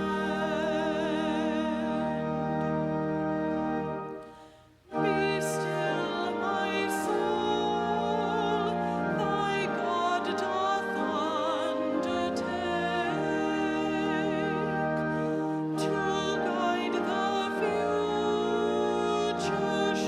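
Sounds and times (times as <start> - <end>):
singer with wide vibrato: 0.0 - 2.7, 4.2 - 20.0
sustained accompaniment chords: 0.0 - 20.0.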